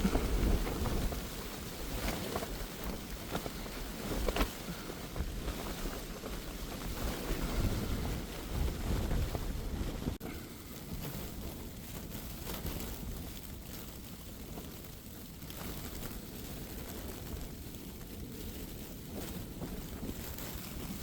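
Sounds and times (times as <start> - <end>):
gusting wind buffeting a tent: 0.0 - 21.0
tent flysheet ticks and snaps: 0.0 - 21.0
wind rumble on microphone: 0.0 - 21.0.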